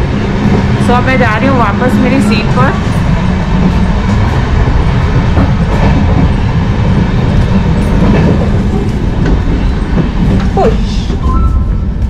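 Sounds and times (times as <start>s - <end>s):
train running gear rumble: 0.0s - 12.0s.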